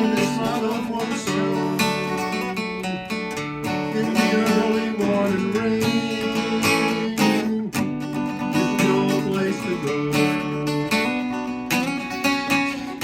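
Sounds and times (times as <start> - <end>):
acoustic guitar strummed: 0.0 - 13.0
person singing folk song: 0.0 - 13.0.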